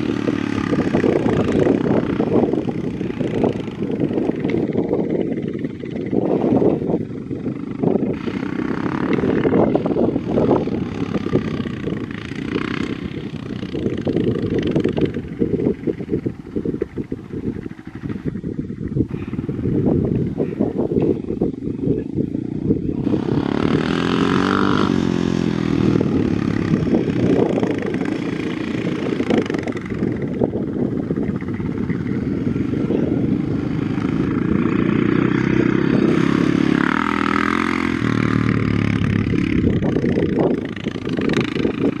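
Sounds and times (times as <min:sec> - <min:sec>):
dirt bike engine revving: 0:00.0 - 0:18.5, 0:22.9 - 0:42.0.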